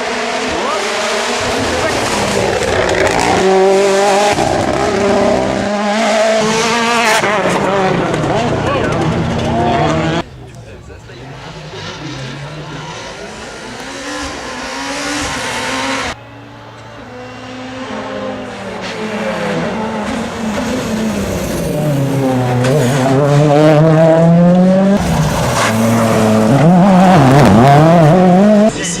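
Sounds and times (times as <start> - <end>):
car approaching shifting gears: 0.0 - 29.0
rally car engine revving: 0.0 - 29.0.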